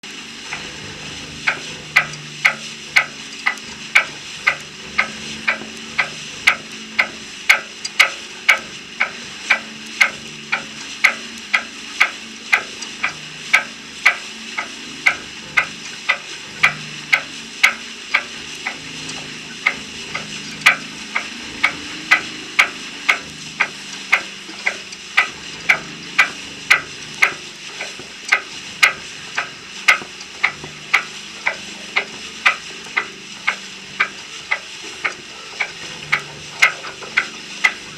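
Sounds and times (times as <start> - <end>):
rhythmic ticking: 0.0 - 37.9.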